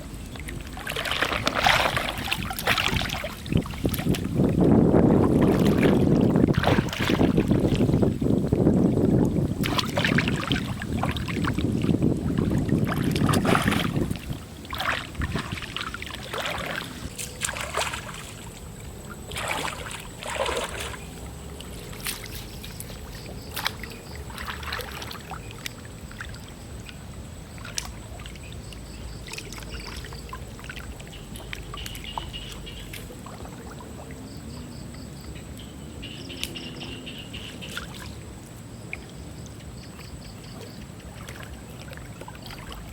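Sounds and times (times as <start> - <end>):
water splashing and sloshing: 0.0 - 42.9
wind rumbling on microphone: 0.0 - 42.9.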